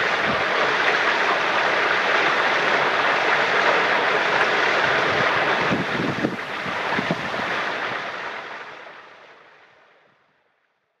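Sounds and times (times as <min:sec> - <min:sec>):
water running and splashing: 0:00.0 - 0:09.1.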